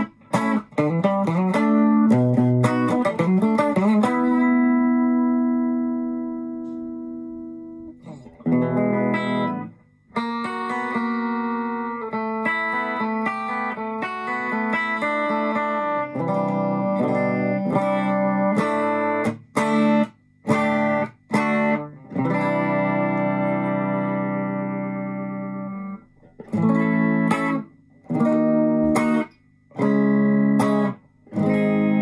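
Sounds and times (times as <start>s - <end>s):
electric guitar playing: 0.0s - 32.0s.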